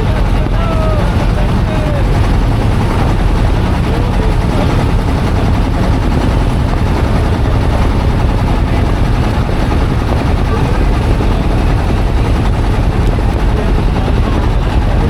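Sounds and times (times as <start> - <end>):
faint voices: 0.0 - 15.0
loud steady low rumble: 0.0 - 15.0.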